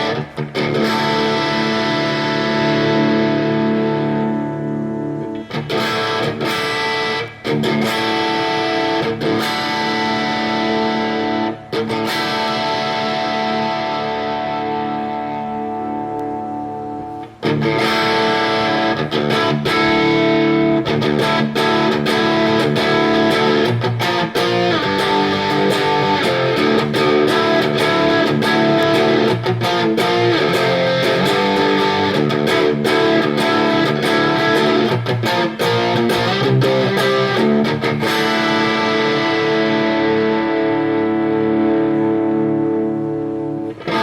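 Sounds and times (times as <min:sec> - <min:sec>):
electric guitar riffing: 0:00.0 - 0:44.0.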